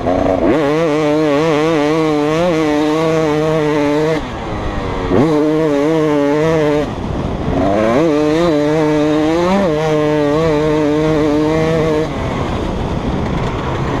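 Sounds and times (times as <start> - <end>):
motocross engine revving: 0.0 - 14.0.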